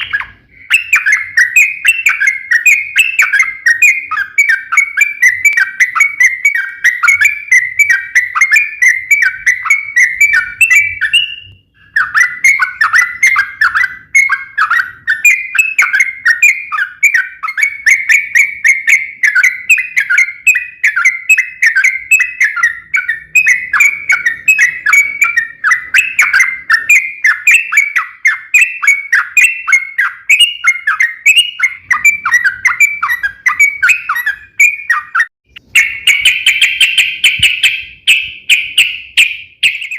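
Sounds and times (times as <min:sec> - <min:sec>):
bird singing fast chirps: 0:00.0 - 0:39.9.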